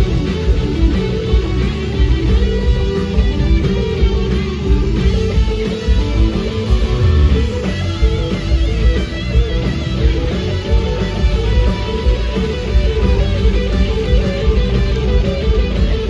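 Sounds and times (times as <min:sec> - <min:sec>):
bass guitar: 0:00.0 - 0:16.0
drums: 0:00.0 - 0:16.0
electric guitar lead lines: 0:00.0 - 0:16.0.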